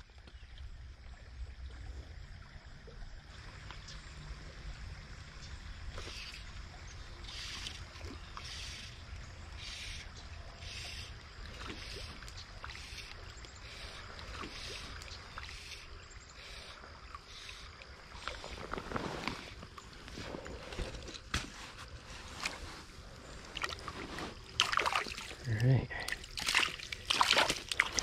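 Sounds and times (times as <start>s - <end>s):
stream flowing: 0.1s - 28.0s.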